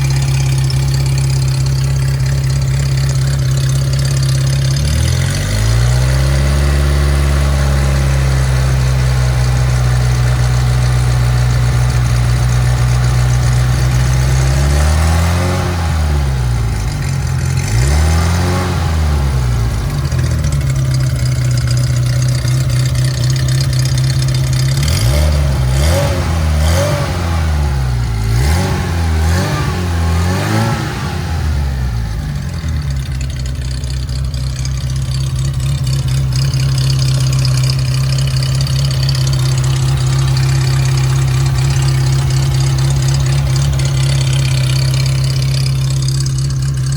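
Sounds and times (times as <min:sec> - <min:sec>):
car engine idling: 0:00.0 - 0:46.9
engine revving: 0:00.0 - 0:46.9.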